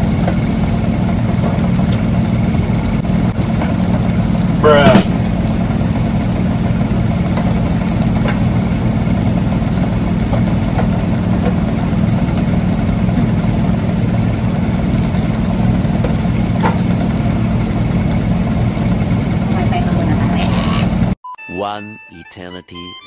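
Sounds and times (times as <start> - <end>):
low mechanical hum: 0.0 - 21.2.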